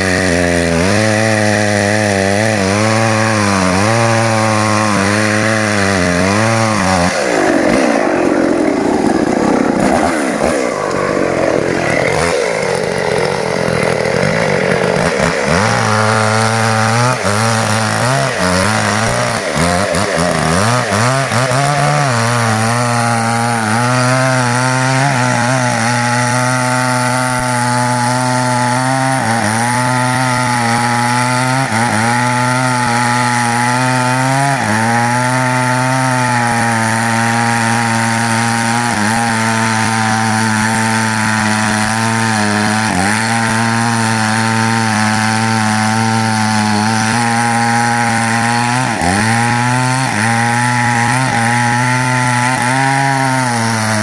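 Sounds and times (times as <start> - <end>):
chainsaw cutting tree trunk: 0.0 - 54.0
chainsaw idling: 0.0 - 54.0.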